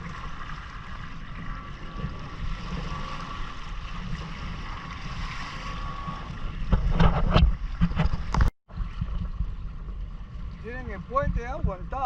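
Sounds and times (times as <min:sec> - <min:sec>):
wind on microphone: 0:01.4 - 0:12.0.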